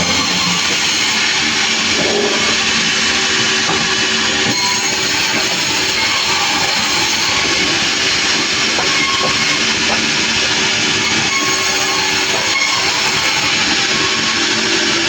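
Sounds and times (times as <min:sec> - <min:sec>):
sawmill saw and engine running: 0:00.0 - 0:15.0.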